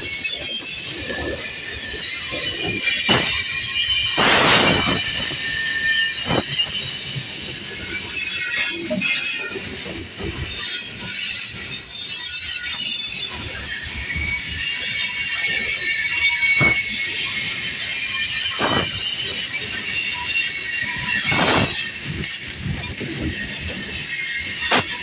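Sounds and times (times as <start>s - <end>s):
train wheels squealing: 0.0s - 25.0s.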